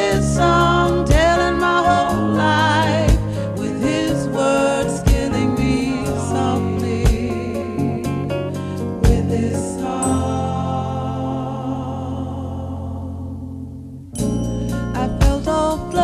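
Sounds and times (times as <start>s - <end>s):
singing voice with vibrato: 0.0s - 13.7s
sustained bass notes: 0.0s - 16.0s.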